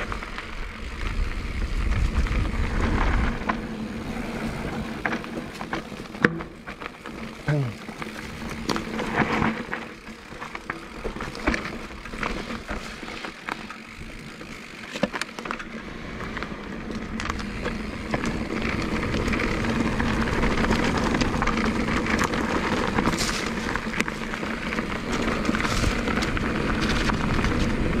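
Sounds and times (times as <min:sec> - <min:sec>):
bike clicks and rattles: 0:00.0 - 0:28.0
tyres rolling over earth and leaves: 0:00.0 - 0:28.0.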